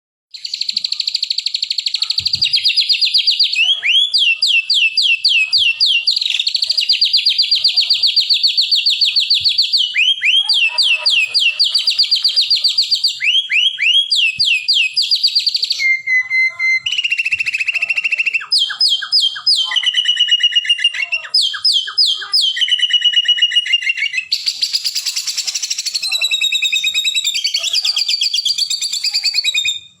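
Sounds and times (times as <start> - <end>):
songbird trilling and whistling: 0.4 - 30.0.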